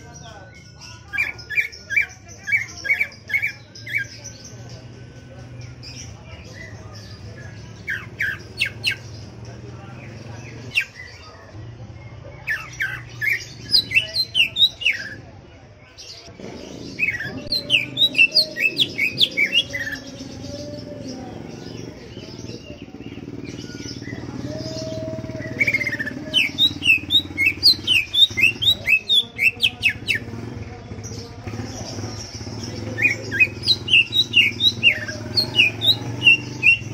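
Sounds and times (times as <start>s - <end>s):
bird singing sweeping notes: 0.0s - 15.3s, 16.2s - 36.9s.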